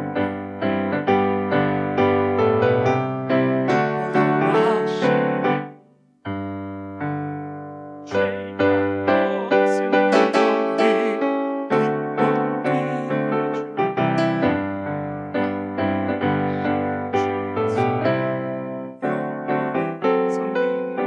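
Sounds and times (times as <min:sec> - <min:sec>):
slow solo piano music: 0:00.0 - 0:21.0.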